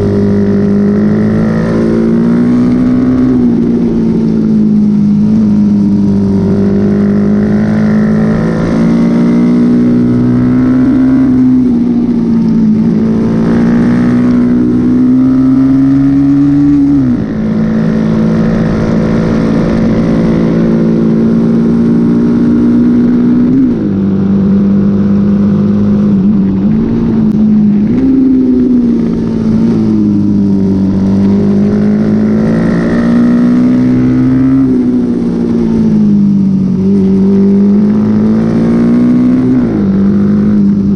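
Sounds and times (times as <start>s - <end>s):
motorcycle engine revving hard: 0.0s - 40.9s.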